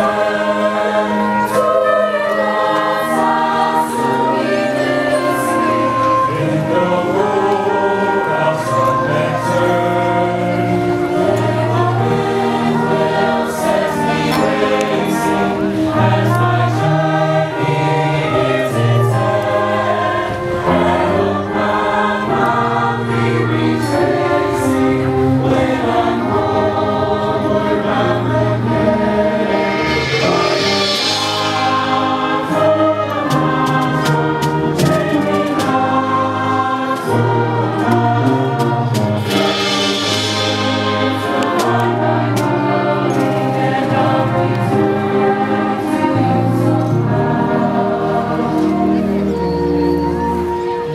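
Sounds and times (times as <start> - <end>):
choir singing: 0.0 - 50.9
concert band brass and percussion: 0.0 - 50.9.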